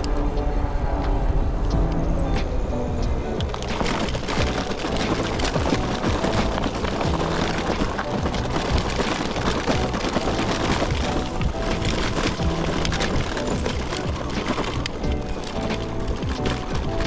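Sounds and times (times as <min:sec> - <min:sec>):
background music: 0:00.0 - 0:17.0
bike tyres rolling over gravel: 0:00.0 - 0:17.0.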